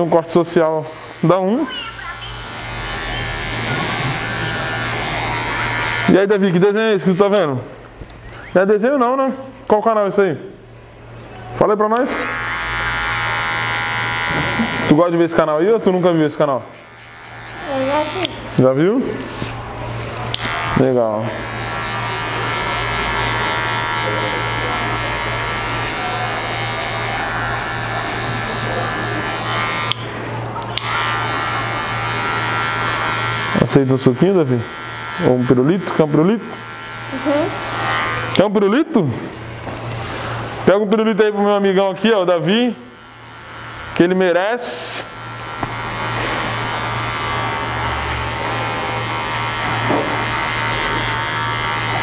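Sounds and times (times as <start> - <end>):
electric hair clipper humming: 0.0 - 7.4, 11.9 - 52.0.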